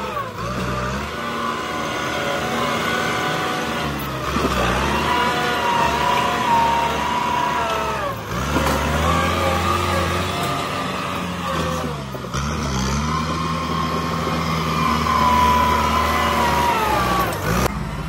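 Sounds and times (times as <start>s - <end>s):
tractor diesel engine running hard: 0.0s - 18.0s.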